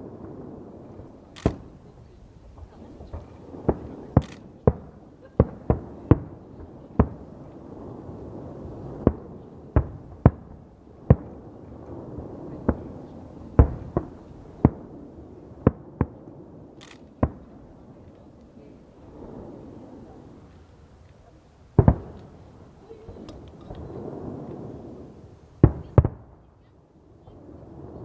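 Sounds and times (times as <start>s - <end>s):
fireworks bangs: 0.0s - 26.6s
rumble of distant explosions: 0.0s - 28.0s.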